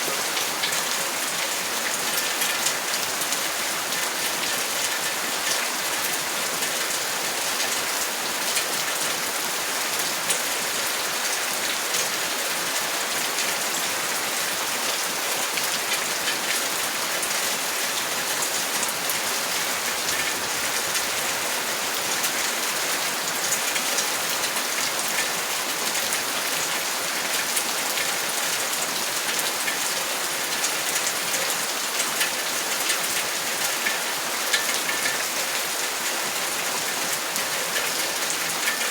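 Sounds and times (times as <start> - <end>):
steady rain falling: 0.0 - 38.9
raindrops ticking on a surface: 0.1 - 9.2, 15.0 - 38.9.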